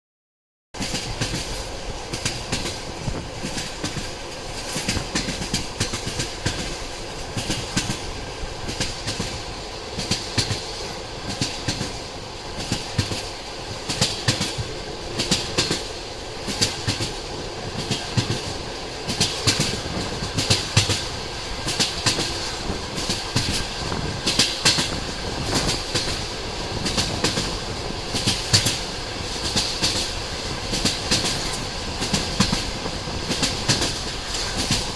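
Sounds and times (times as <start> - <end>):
train rumble: 0.8 - 34.9
train wheels clattering on rails: 0.8 - 34.9.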